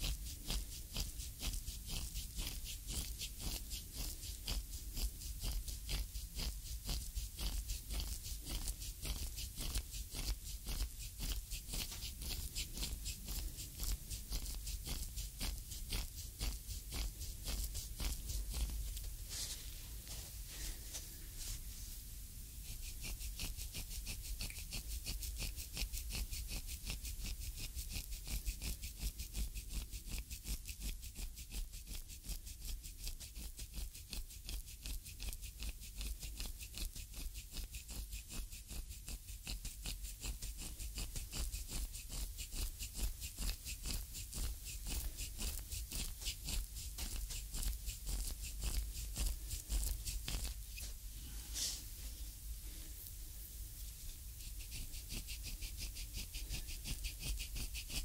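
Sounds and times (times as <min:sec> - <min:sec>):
wooden stick rasping on skin: 0:00.0 - 0:21.6, 0:22.6 - 0:51.8, 0:53.8 - 0:58.0.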